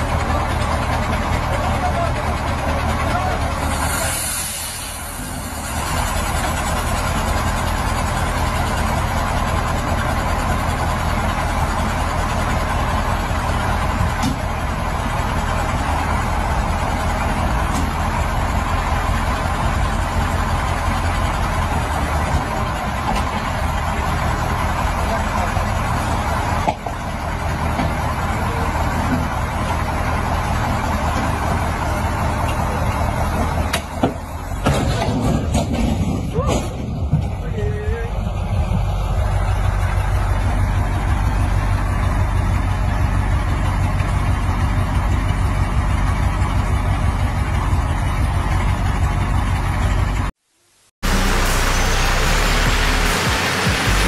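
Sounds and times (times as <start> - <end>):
diesel truck engine running: 0.0 - 50.3, 51.0 - 54.0.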